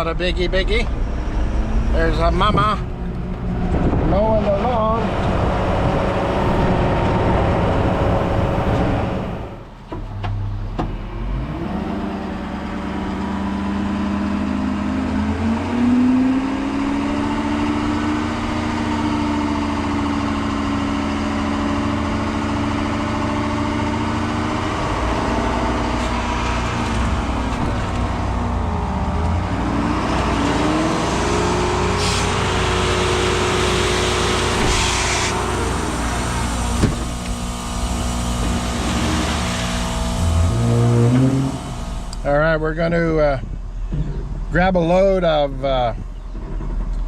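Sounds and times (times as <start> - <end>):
truck engine pulling away: 0.0 - 47.0.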